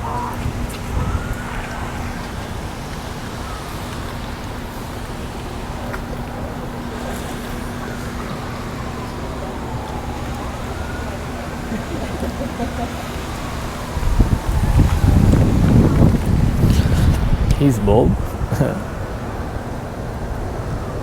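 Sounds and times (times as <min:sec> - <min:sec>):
city traffic noise: 0:00.0 - 0:21.0
distant siren wailing: 0:00.0 - 0:21.0.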